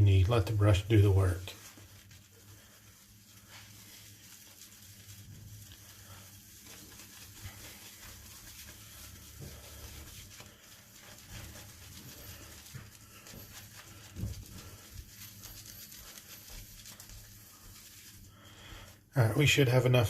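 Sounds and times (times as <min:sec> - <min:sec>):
shaving brush swishing on soap: 0:00.0 - 0:20.0.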